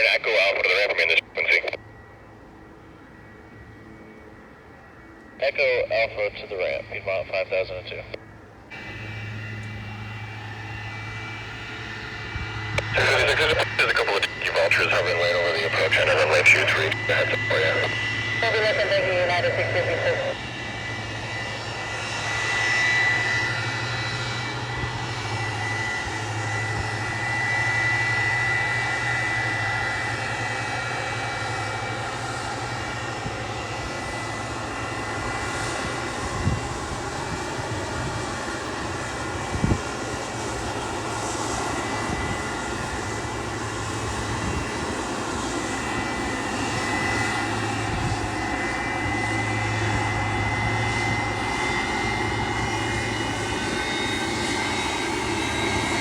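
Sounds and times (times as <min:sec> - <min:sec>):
aircraft engines running: 0:00.0 - 0:56.0.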